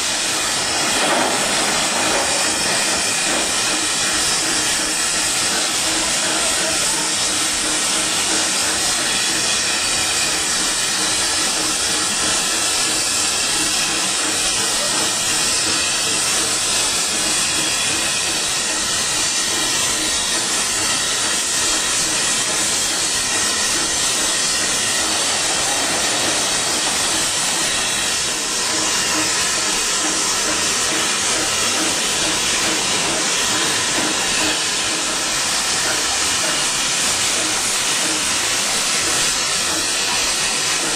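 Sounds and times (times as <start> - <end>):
steam locomotive hissing: 0.0 - 40.9.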